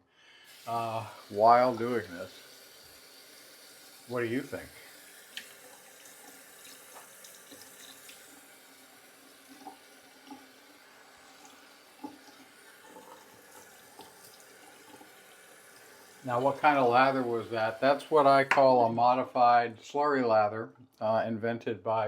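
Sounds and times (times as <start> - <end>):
water running from tap into sink: 0.5 - 18.7.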